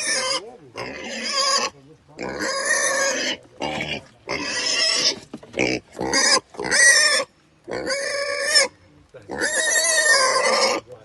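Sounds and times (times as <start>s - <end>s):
pig squealing: 0.0s - 10.9s.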